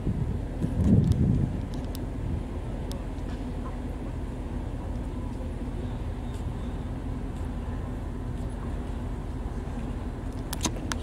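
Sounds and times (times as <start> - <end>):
constant hum tone: 0.0 - 11.0.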